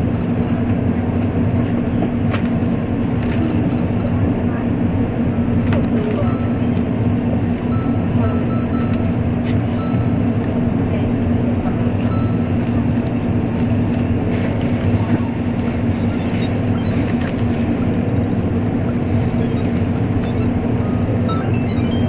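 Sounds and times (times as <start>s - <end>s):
train running rumble and hum: 0.0s - 22.0s.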